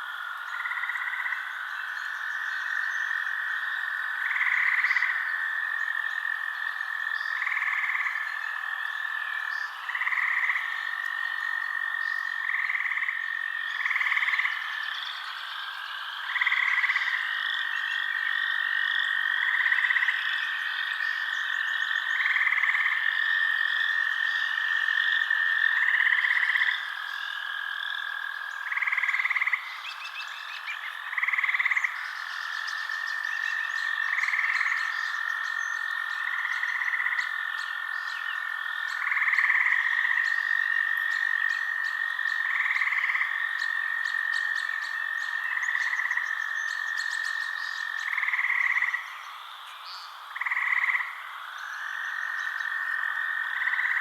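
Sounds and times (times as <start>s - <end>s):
fast ticking frog trills: 0.0s - 54.0s
frogs trilling drone: 0.0s - 54.0s
louder frog calls: 0.0s - 54.0s.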